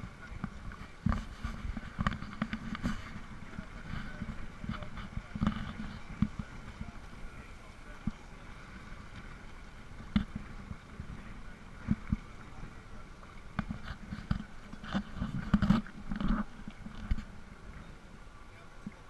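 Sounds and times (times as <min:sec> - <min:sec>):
thumps and splashes: 0:00.0 - 0:17.4
speed boat engine rumble: 0:00.0 - 0:19.0
water washing against hull: 0:00.0 - 0:19.0.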